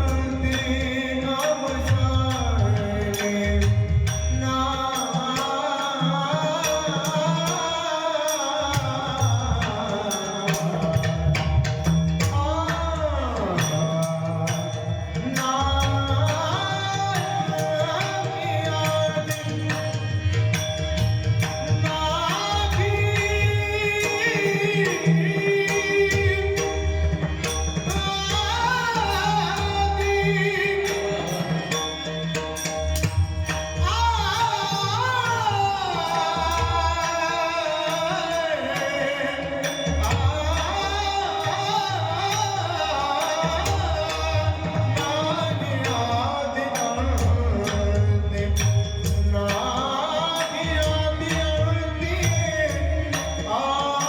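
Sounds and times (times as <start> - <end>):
person singing devotional song: 0.0 - 54.0.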